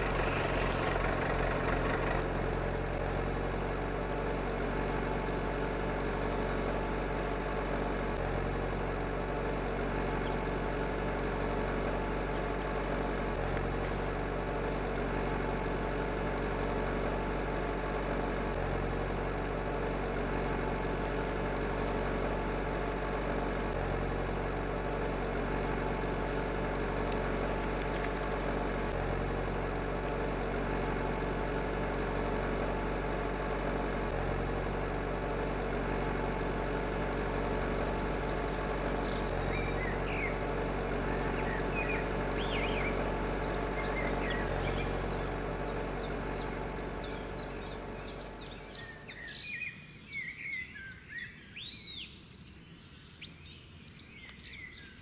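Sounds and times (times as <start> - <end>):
birds chirping: 0.0 - 2.3, 3.7 - 18.6, 19.4 - 34.1, 34.8 - 55.0
mechanical drive hum: 0.0 - 49.6.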